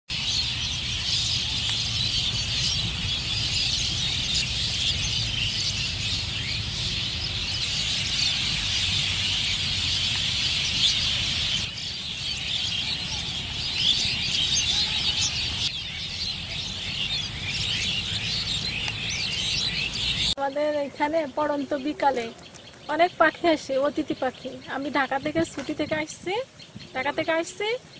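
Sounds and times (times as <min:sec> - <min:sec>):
flock of birds chirping: 0:00.1 - 0:27.9.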